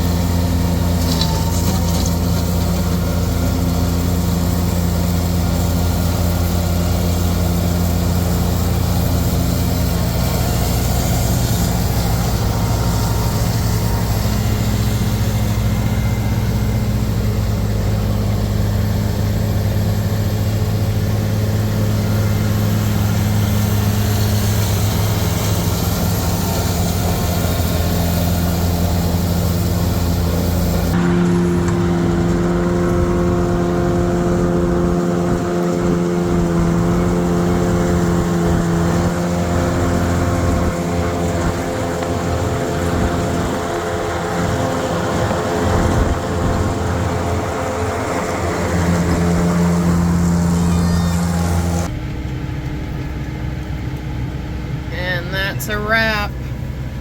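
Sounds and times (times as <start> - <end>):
tractor engine drone: 0.0 - 57.0.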